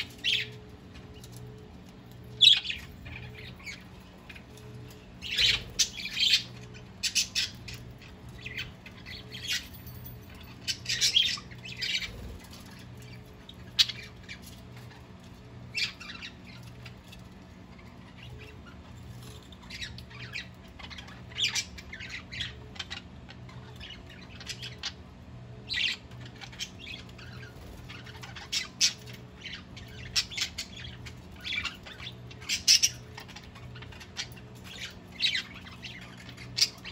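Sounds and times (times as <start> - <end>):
budgerigars chattering and squawking: 0.0 - 1.4, 2.3 - 36.9.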